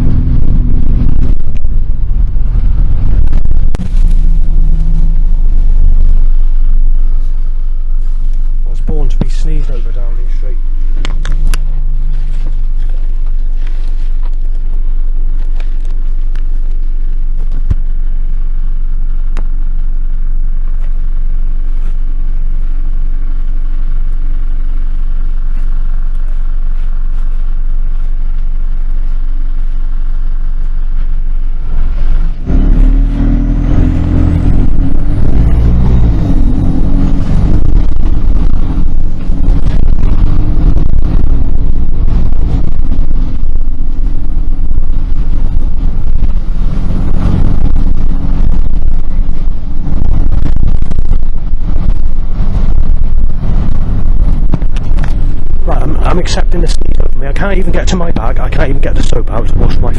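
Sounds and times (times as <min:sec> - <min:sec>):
motor vehicle rumble: 0:00.0 - 0:59.9
thin high whine: 0:00.0 - 0:59.9.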